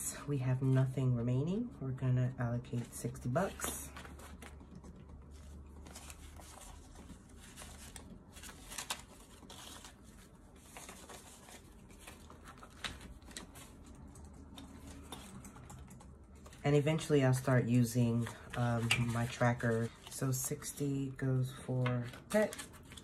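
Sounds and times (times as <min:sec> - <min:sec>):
paper banknotes rustling: 0:02.7 - 0:23.0.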